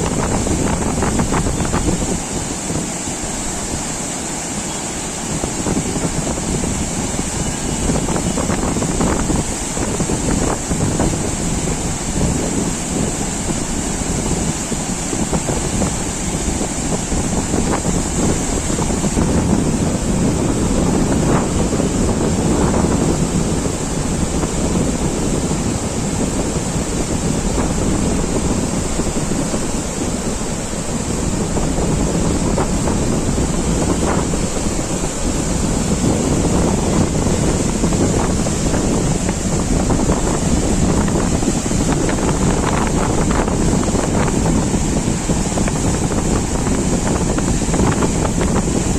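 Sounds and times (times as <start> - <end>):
flood water rushing: 0.0 - 48.9
wind buffeting microphone: 0.0 - 48.9.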